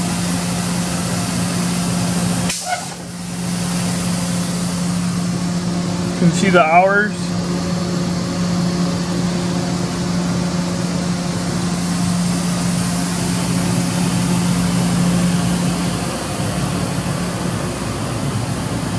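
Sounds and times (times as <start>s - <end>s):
machine hum with hiss: 0.0s - 18.9s.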